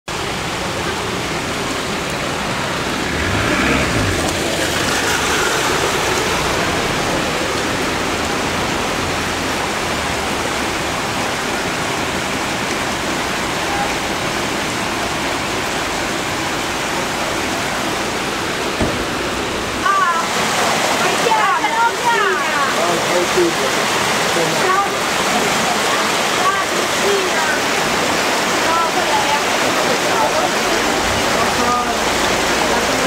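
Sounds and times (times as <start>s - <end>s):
car driving through water: 0.1s - 33.0s
heavy rain: 0.1s - 33.0s
water running across street: 0.1s - 33.0s.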